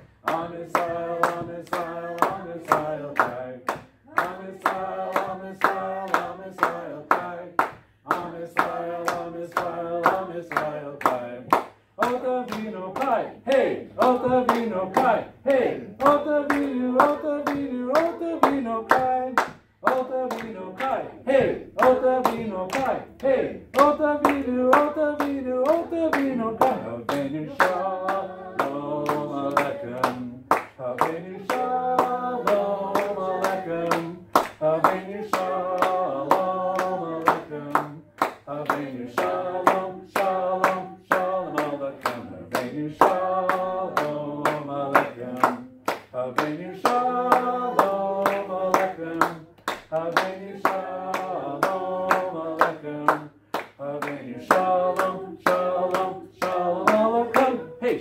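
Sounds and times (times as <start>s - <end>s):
hands clapping a beat: 0.0s - 58.0s
people singing a worship song: 0.0s - 58.0s.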